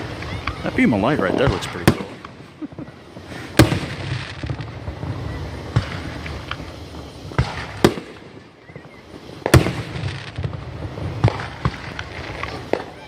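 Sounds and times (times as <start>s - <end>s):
fireworks booming bursts: 0.0s - 13.0s
fireworks popping and crackling: 0.0s - 13.0s.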